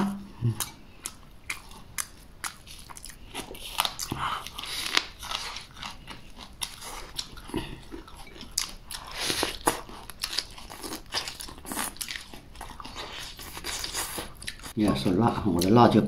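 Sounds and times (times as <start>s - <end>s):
crunchy biting and chewing: 0.6s - 14.8s.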